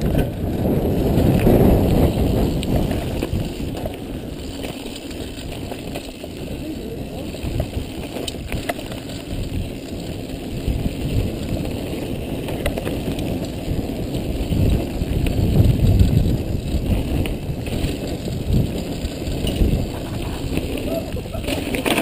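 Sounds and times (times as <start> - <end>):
bike knocks and rattles: 0.0 - 22.0
bike tyres crunching over gravel: 0.0 - 22.0
wind buffeting microphone: 0.0 - 22.0.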